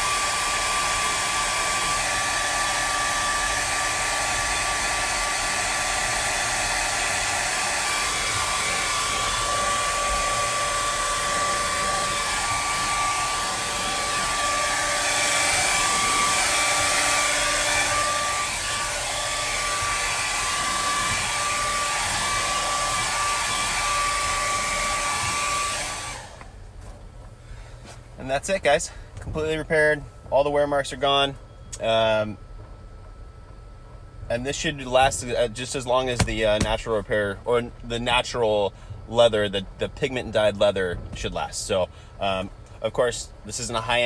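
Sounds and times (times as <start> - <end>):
hot-air dryer blowing with whine: 0.0 - 44.0.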